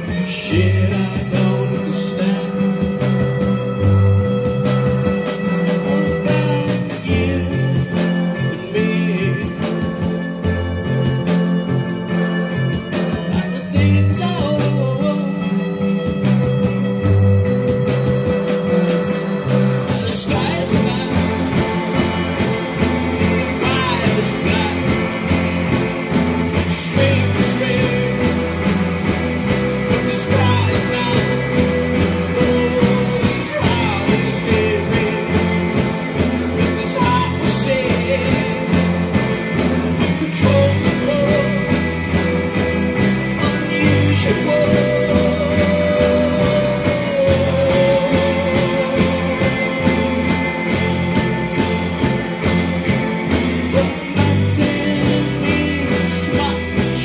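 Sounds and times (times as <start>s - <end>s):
man singing long notes: 0.0s - 4.5s, 5.4s - 10.4s, 13.1s - 16.5s, 19.3s - 39.3s, 40.0s - 50.6s, 53.7s - 57.0s
drum kit beat: 0.0s - 57.0s
electric guitars: 0.0s - 57.0s.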